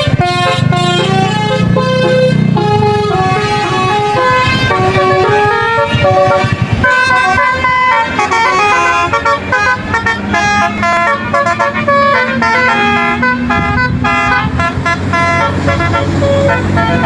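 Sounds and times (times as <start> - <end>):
bus musical horn tune: 0.0 - 17.0
low engine rumble: 0.0 - 17.0.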